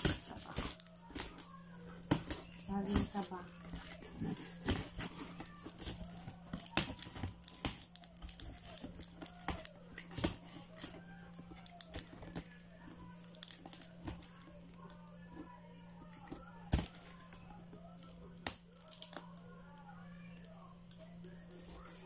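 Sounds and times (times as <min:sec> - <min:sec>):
plastic and tape crinkling and tearing: 0:00.0 - 0:22.0.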